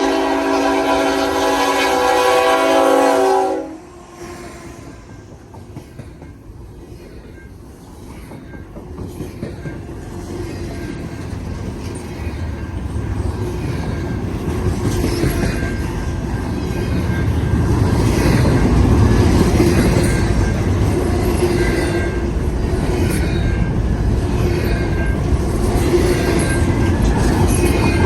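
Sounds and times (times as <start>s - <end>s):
train rail noise: 0.0s - 28.0s.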